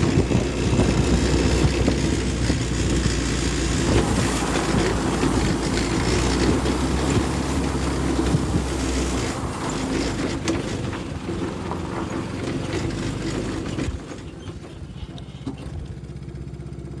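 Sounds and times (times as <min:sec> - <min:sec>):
knocks and rattles: 0:00.0 - 0:15.8
go-kart engine running: 0:00.0 - 0:17.0.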